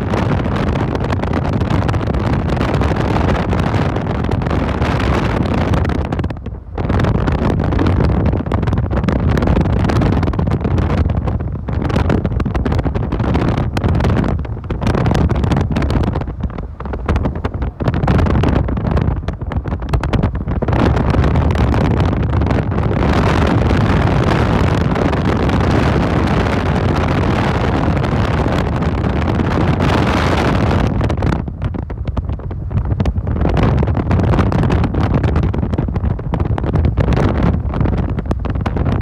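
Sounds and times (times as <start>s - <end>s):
road noise: 0.0s - 39.0s
wind buffeting microphone: 0.0s - 39.0s.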